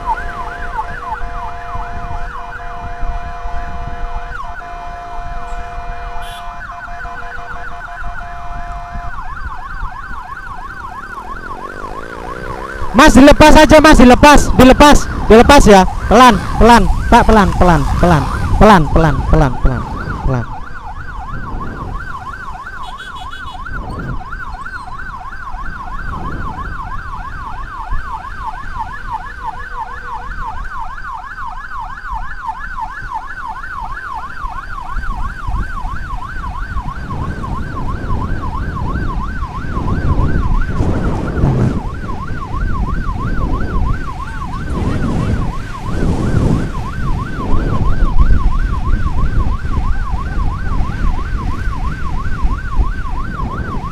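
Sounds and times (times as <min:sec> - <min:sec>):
emergency siren yelping: 0:00.0 - 0:53.9
engine and road noise: 0:00.0 - 0:53.9.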